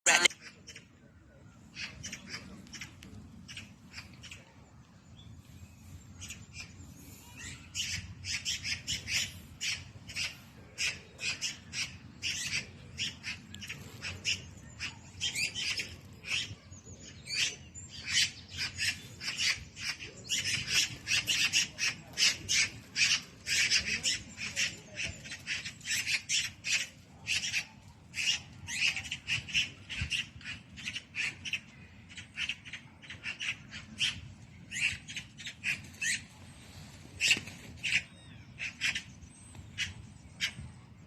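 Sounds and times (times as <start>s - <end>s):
birds calling high-pitched: 5.2s - 41.0s.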